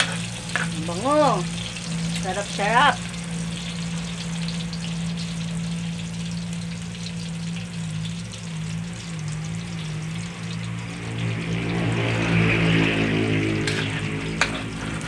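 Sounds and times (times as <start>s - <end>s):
garlic and onion sizzling in oil: 0.0s - 15.0s
low machine drone: 0.0s - 15.0s.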